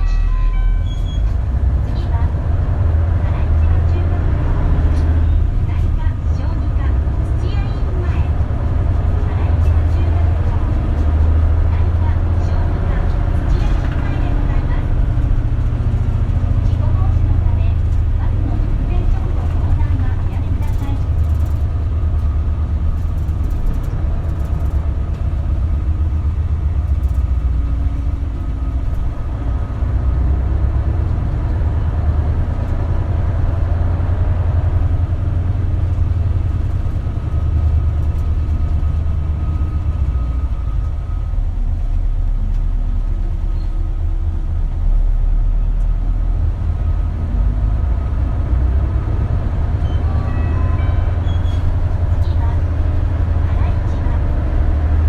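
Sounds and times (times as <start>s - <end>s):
bus diesel engine: 0.0s - 55.0s
road rumble: 0.0s - 55.0s.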